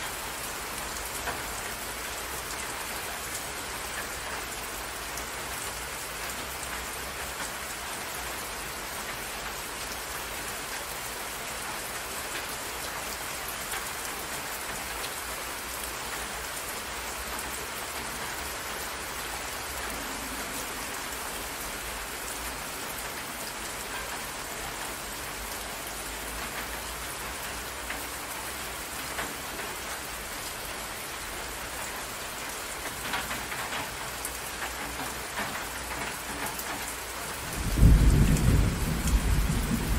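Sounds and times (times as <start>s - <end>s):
rain splashing on water: 0.0s - 39.9s.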